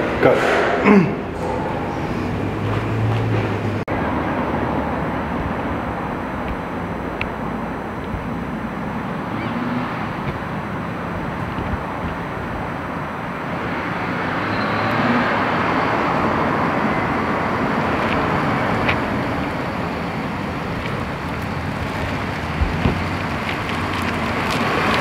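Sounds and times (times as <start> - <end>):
car engine and tyres: 0.0 - 25.0.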